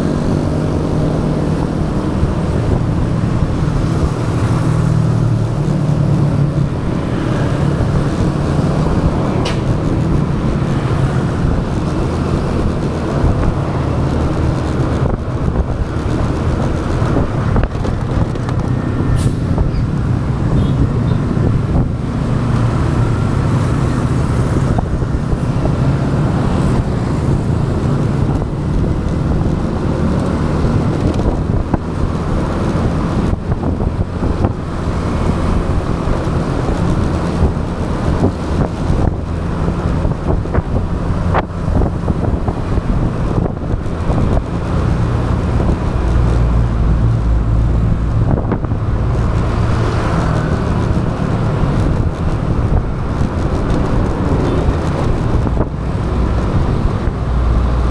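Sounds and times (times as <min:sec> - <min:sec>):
road noise: 0:00.0 - 0:57.9
wind rush on microphone: 0:00.0 - 0:57.9.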